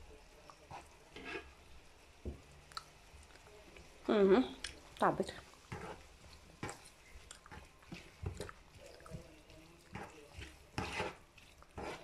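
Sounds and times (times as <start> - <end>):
peppers crackling in frying pan: 0.0 - 12.0.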